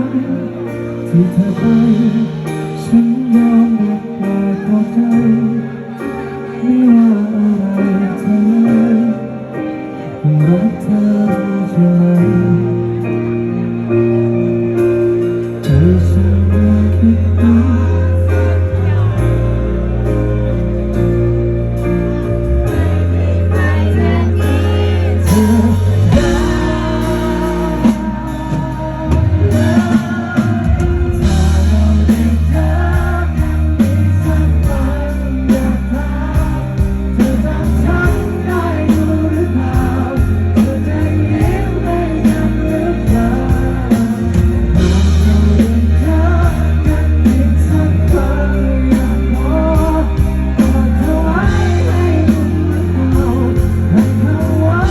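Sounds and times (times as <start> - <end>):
live pop-rock band: 0.0 - 54.9.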